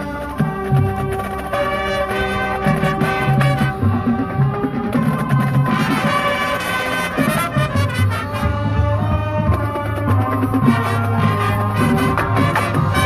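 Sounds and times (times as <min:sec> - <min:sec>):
marching band playing: 0:00.0 - 0:13.0.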